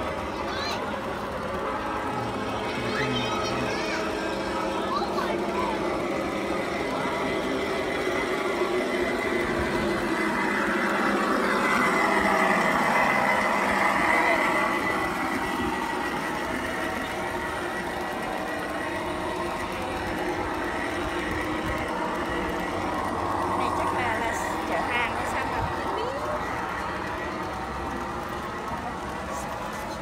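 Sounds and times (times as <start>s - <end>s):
model train rolling rumble: 0.0s - 30.0s.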